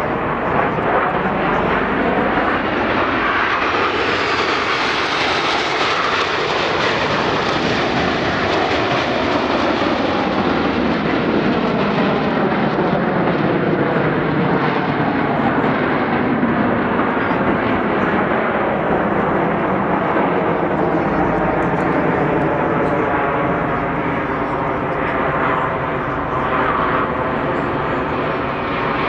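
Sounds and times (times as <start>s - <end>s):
jet noise overhead: 0.0s - 29.0s.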